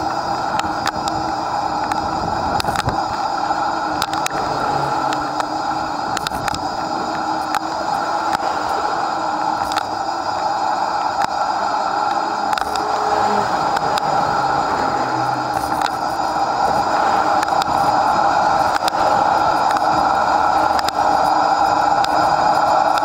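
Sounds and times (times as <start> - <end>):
wind and bicycle road noise: 0.0 - 23.0.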